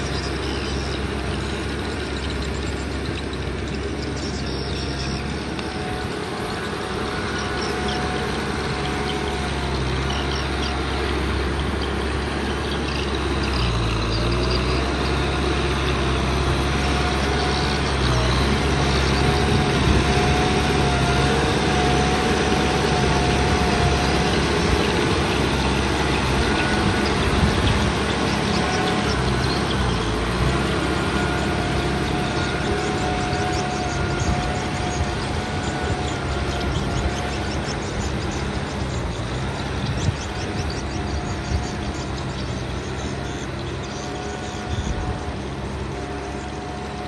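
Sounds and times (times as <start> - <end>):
thin wavering whine: 0.0 - 47.0
tractor diesel engine running: 0.0 - 47.0.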